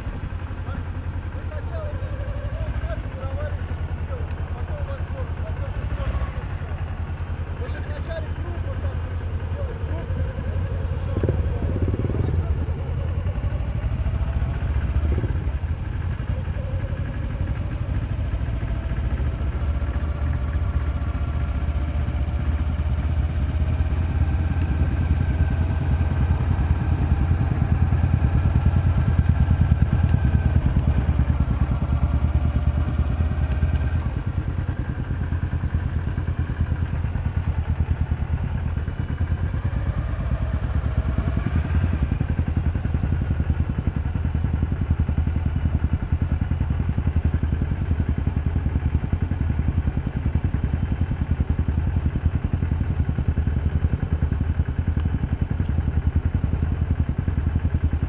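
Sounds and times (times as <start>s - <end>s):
motorcycle engines rumbling: 0.0s - 58.0s.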